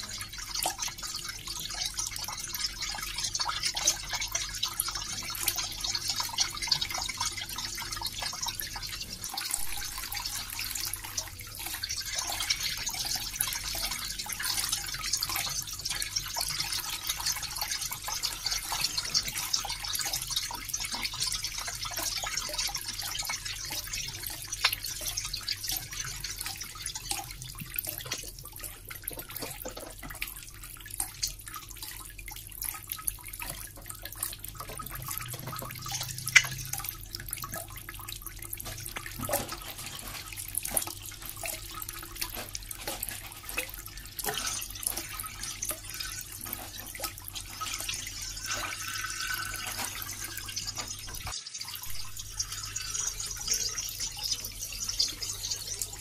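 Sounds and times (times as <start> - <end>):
small water drips: 0.0 - 56.0
water running and splashing: 0.0 - 56.0.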